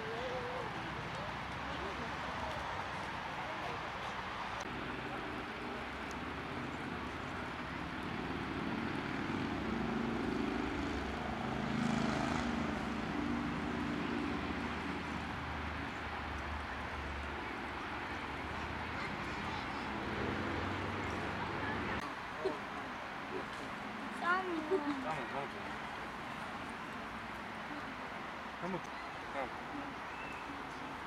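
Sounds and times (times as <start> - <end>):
distant engine drone: 0.0 - 31.0.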